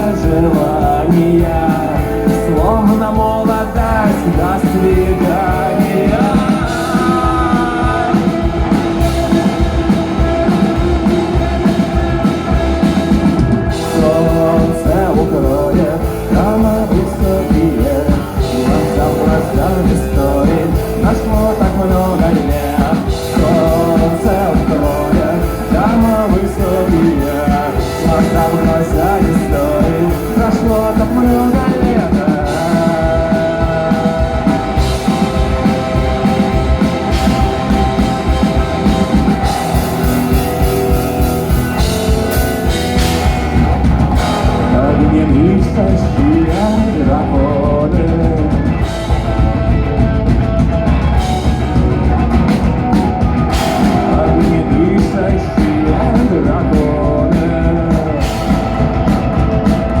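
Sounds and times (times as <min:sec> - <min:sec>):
person singing: 0:00.0 - 0:50.0, 0:50.9 - 1:00.0
drums: 0:00.0 - 1:00.0
guitars: 0:00.0 - 1:00.0.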